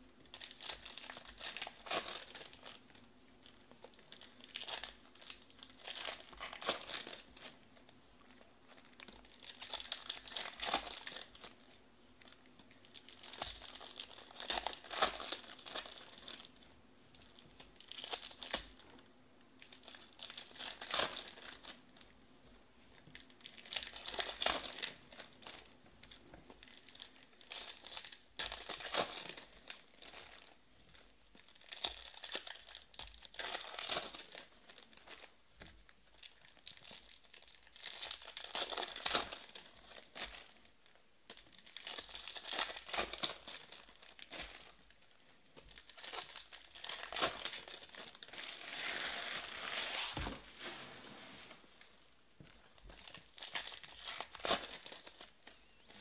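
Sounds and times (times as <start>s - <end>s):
foil wrappers crinkling: 0.3s - 7.6s, 8.3s - 19.0s, 19.6s - 22.1s, 23.0s - 35.3s, 36.1s - 40.7s, 41.3s - 50.8s, 51.4s - 56.0s.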